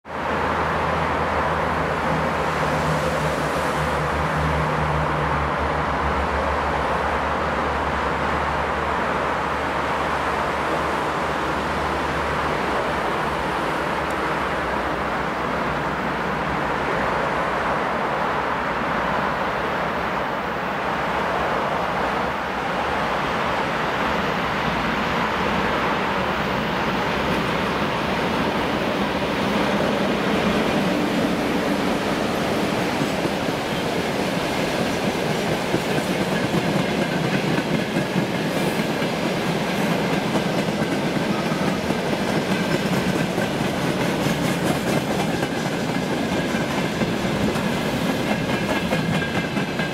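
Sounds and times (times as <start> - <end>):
road traffic roar: 0.0 - 49.9.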